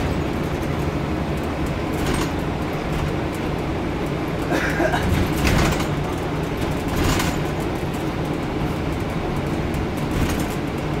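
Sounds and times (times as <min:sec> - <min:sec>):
bus diesel engine drone: 0:00.0 - 0:11.0
road noise: 0:00.0 - 0:11.0.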